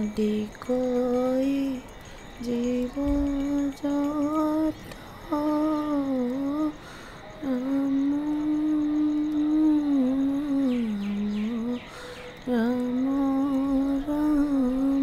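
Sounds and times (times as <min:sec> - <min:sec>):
woman humming: 0:00.0 - 0:06.8, 0:07.4 - 0:15.0.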